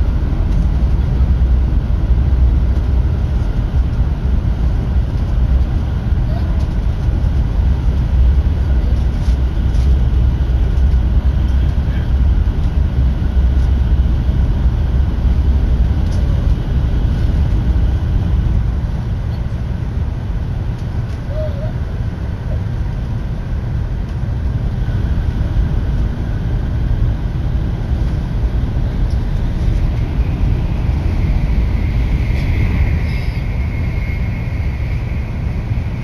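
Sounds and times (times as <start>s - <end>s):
train interior rumble: 0.0s - 36.0s.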